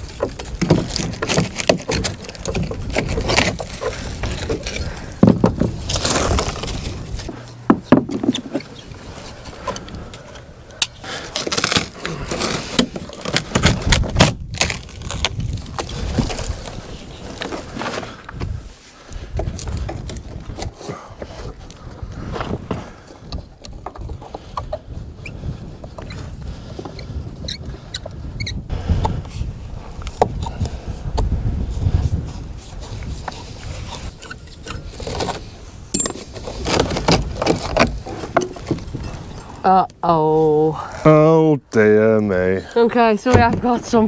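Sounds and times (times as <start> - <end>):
rotten wood cracking and splintering: 0.0 - 28.0, 32.4 - 40.0.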